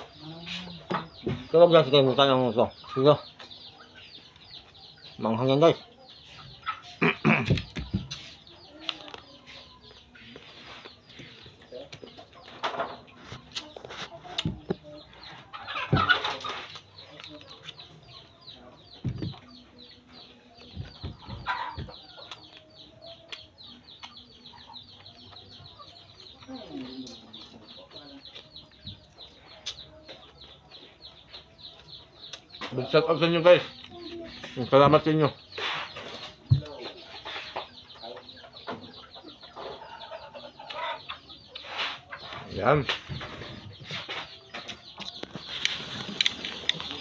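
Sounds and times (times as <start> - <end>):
chickens clucking and chirping: 0.0 - 47.0.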